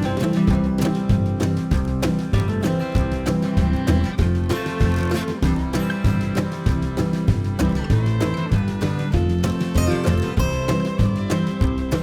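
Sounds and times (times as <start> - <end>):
guitar-led country music: 0.0 - 12.0.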